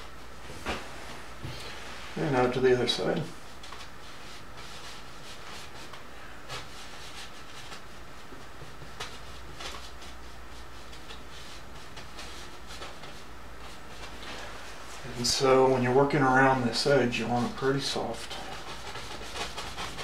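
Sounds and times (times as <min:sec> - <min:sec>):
room hiss: 0:00.0 - 0:20.0
brush scrubbing on canvas: 0:01.8 - 0:20.0.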